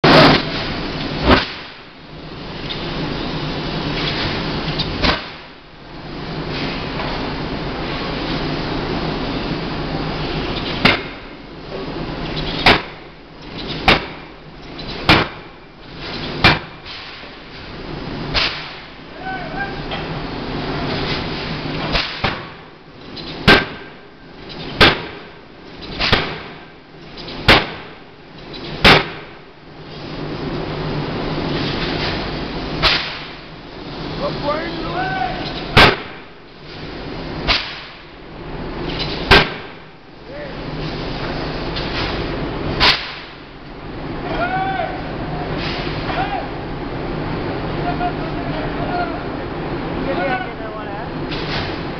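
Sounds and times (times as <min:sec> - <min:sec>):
machine and shop rumble: 0:00.0 - 0:51.9
steady factory hum: 0:00.0 - 0:51.9.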